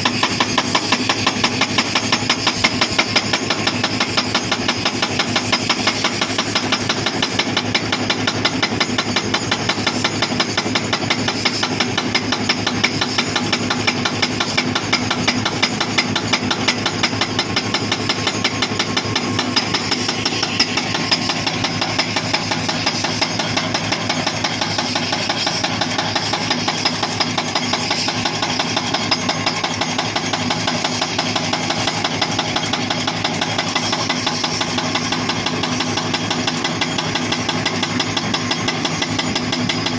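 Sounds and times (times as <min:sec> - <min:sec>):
diesel engine running: 0:00.0 - 0:39.9
hydraulic breaker hammering rock: 0:00.0 - 0:39.9.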